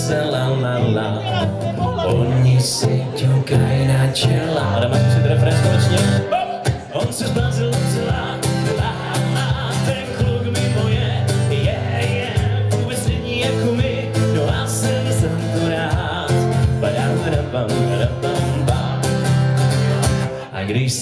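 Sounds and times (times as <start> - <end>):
acoustic guitar strumming: 0.0 - 20.6
man singing: 0.0 - 21.0.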